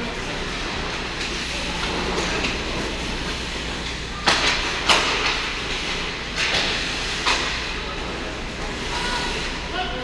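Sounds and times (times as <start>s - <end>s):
skates and sticks scraping ice: 0.1s - 10.0s.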